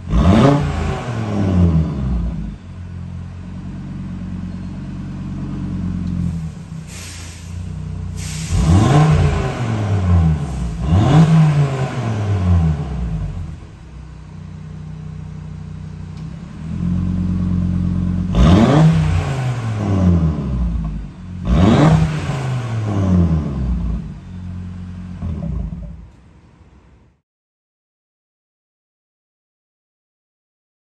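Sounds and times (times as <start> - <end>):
car engine idling and revving: 0.0 - 27.2.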